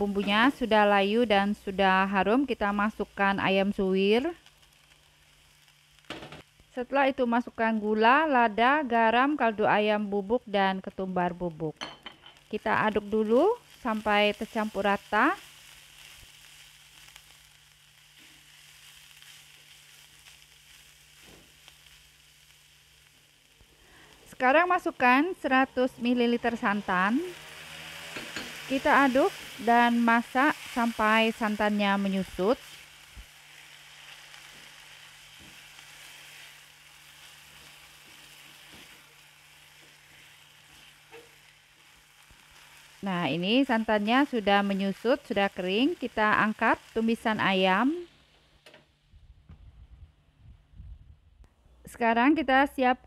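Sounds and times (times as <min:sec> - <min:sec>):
food sizzling in hot oil: 0:00.0 - 0:48.3.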